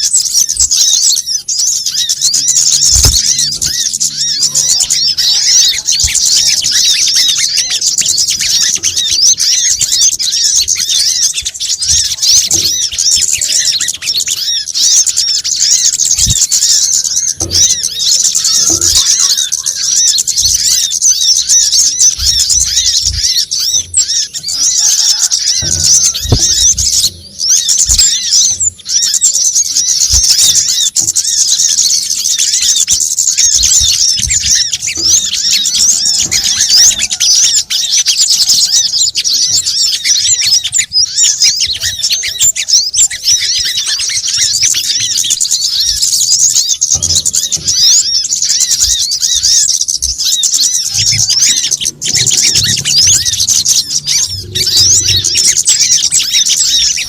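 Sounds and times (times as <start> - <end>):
small birds twittering: 0.0 - 57.0.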